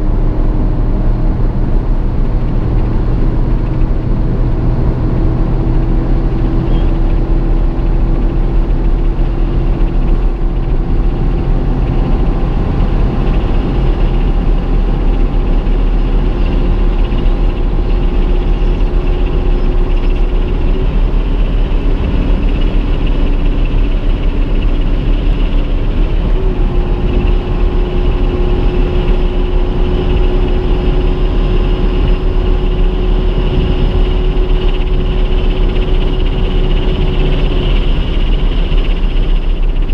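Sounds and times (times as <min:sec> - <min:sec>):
car engine tone: 0:00.0 - 0:39.9
wind and tyre roar: 0:00.0 - 0:39.9.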